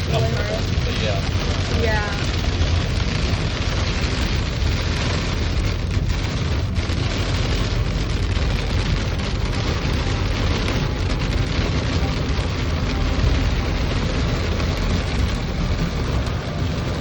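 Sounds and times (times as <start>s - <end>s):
heavy rain drumming on car roof: 0.0s - 17.0s.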